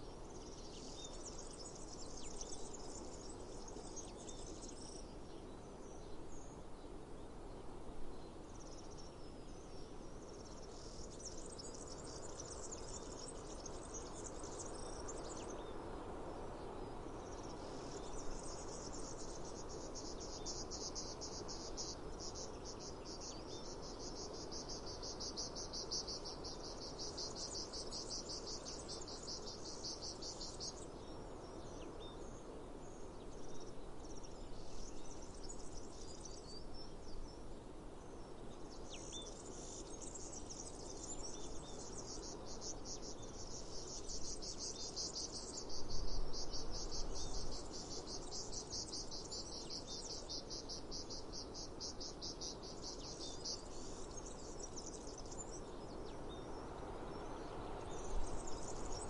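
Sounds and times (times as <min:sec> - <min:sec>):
low outdoor hiss: 0:00.0 - 0:59.0.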